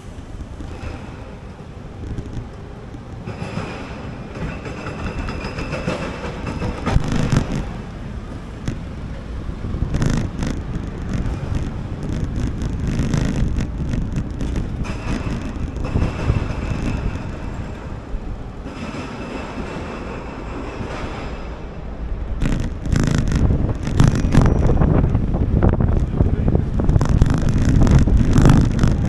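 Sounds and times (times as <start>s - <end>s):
traffic rumble: 0.0s - 29.0s
wind buffeting microphone: 0.0s - 29.0s.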